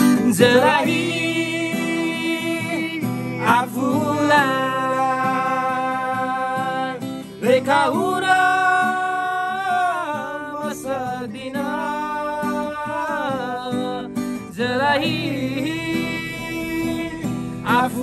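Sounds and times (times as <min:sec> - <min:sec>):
acoustic guitar: 0:00.0 - 0:18.0
man singing: 0:00.0 - 0:18.0.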